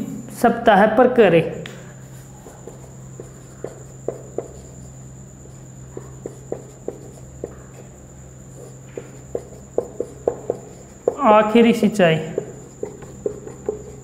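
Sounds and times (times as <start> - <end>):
marker writing on whiteboard: 2.0 - 14.0.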